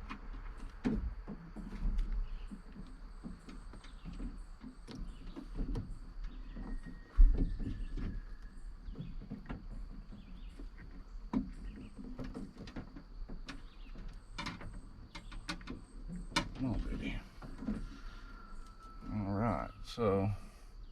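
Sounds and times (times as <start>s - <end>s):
light clicks and rustles: 0.0s - 19.1s
faint birds chirping: 0.0s - 20.9s.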